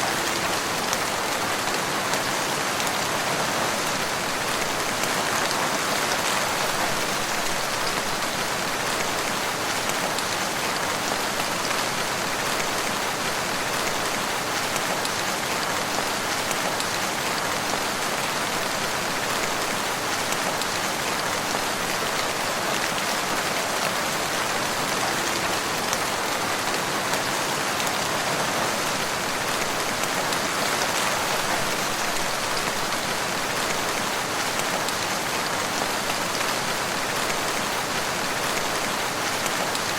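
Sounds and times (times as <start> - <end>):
steady rain on forest: 0.0 - 39.9.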